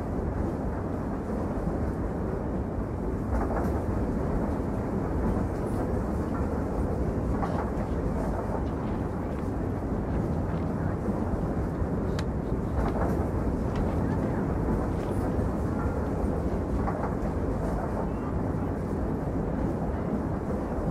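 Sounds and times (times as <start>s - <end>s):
train rumbling along track: 0.0s - 20.9s.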